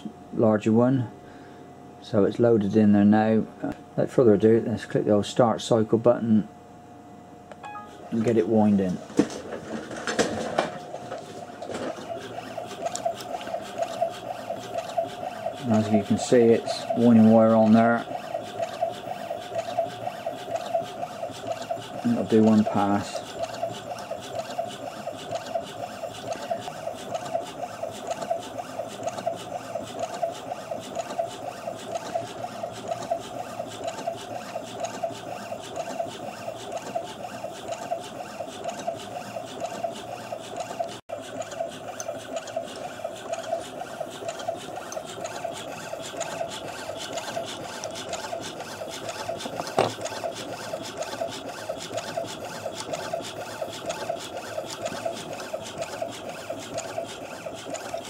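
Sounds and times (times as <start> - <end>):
coil-winding machine whirring: 7.5 - 58.0.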